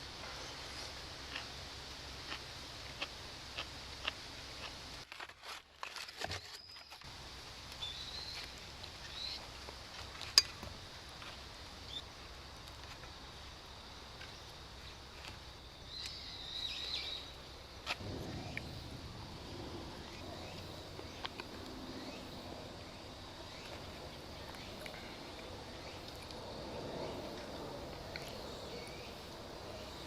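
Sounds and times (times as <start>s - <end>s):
forest ambience: 0.0s - 30.0s.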